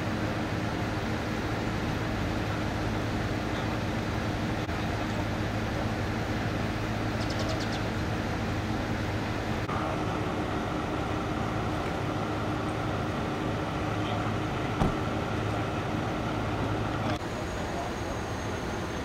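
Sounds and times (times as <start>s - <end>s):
fire engine idling: 0.0s - 19.0s.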